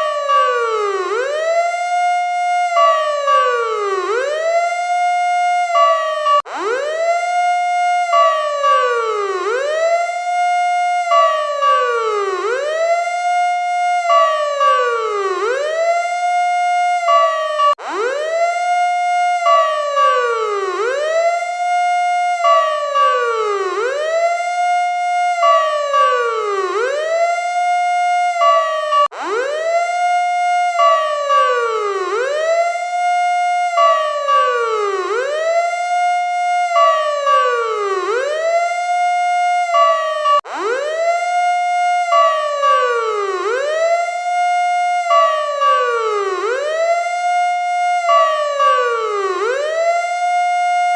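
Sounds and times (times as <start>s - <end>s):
electronic emergency siren: 0.0s - 50.9s
steady high siren tone: 0.0s - 50.9s.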